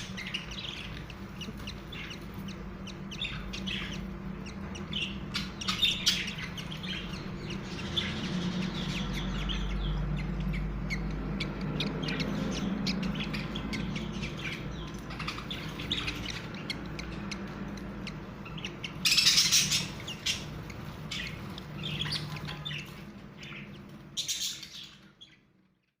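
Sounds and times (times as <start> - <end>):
budgerigars chirping: 0.0 - 25.9
steady low hum: 0.0 - 26.0.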